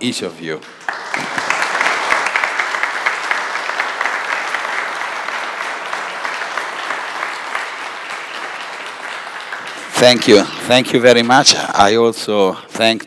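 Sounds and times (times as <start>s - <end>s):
audience applauding: 0.6s - 11.8s.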